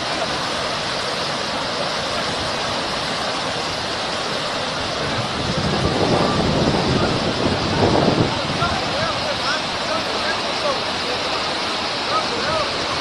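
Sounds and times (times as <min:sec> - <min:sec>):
rushing flood water: 0:00.0 - 0:13.0.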